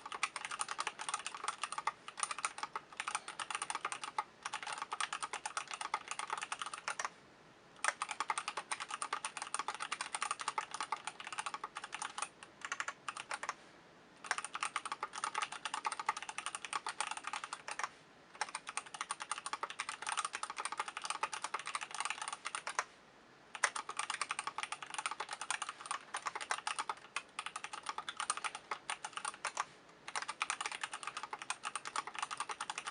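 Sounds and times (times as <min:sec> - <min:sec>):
mechanical keyboard typing: 0:00.0 - 0:07.1, 0:07.8 - 0:13.6, 0:14.2 - 0:22.9, 0:23.5 - 0:32.9.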